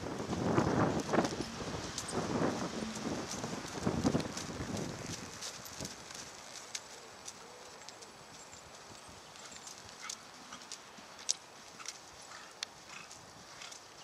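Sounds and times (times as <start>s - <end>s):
horse hoofbeats: 0.0s - 14.0s.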